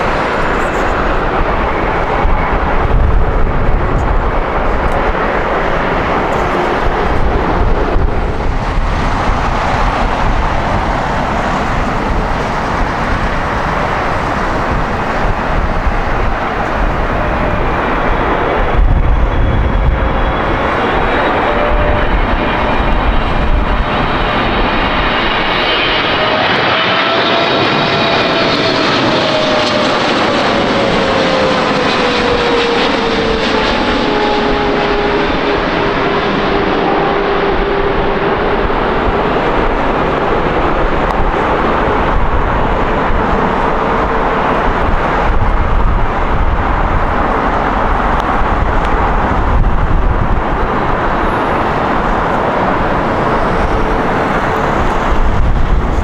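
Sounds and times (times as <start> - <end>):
jet engines roaring: 0.0 - 56.0
whining engine tones: 0.0 - 56.0.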